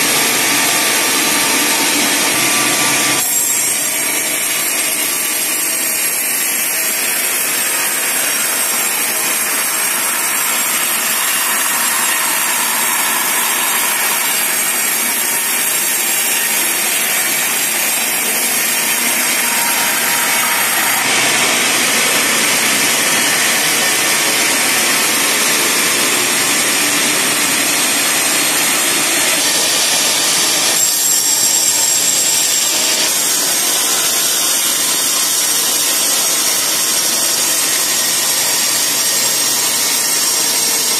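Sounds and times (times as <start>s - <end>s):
band saw cutting through log: 0.0s - 40.9s.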